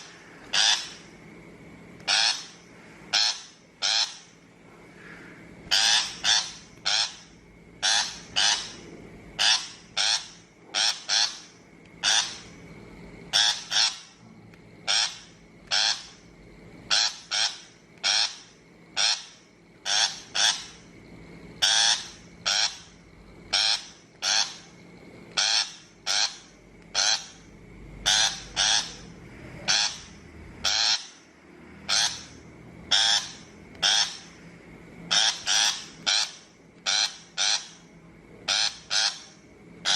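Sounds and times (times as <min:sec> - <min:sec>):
shrike harsh rasping calls: 0:00.0 - 0:01.1, 0:02.0 - 0:12.6, 0:13.2 - 0:14.2, 0:14.8 - 0:20.9, 0:21.5 - 0:39.9.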